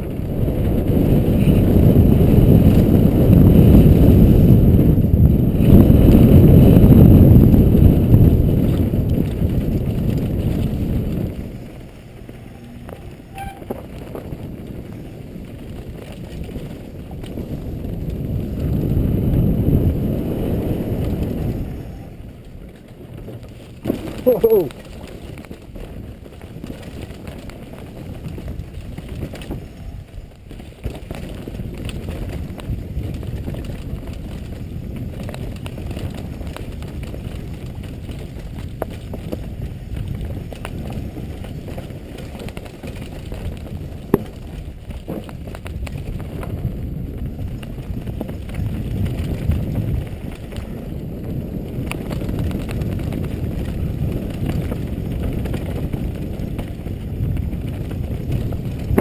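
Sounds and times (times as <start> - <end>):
bike rattling over bumps: 0.0 - 59.0
bike tyres rumbling: 0.0 - 59.0
wind buffeting microphone: 0.0 - 59.0.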